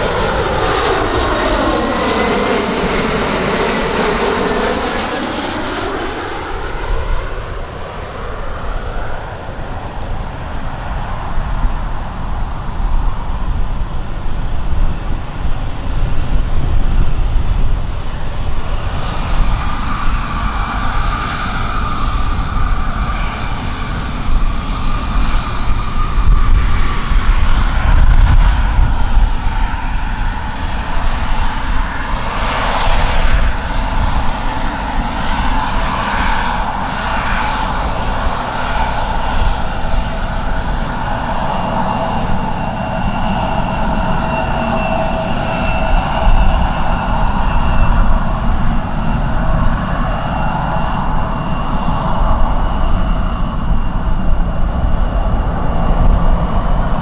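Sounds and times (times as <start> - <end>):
airliner engines rumbling: 0.0 - 57.0
wavering engine whine: 0.0 - 57.0.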